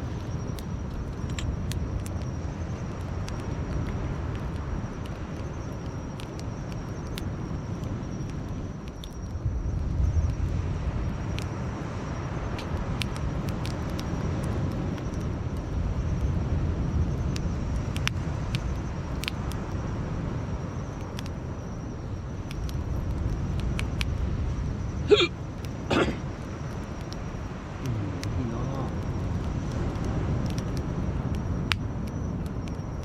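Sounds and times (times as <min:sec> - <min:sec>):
campfire crackling and popping: 0:00.0 - 0:33.0
low outdoor rumble: 0:00.0 - 0:33.0.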